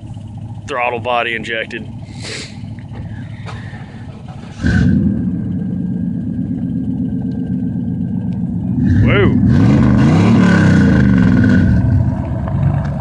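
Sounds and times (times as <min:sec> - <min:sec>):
pickup truck exhaust rumble: 0:00.0 - 0:13.0.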